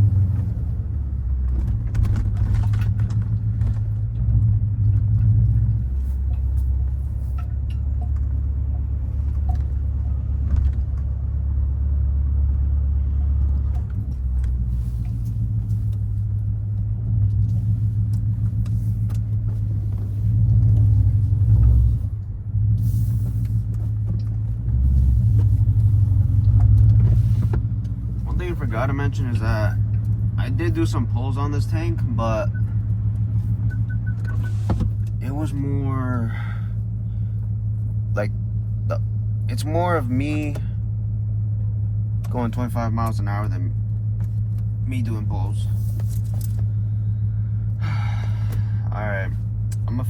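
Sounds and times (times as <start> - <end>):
car exhaust rumble: 0.0 - 50.0.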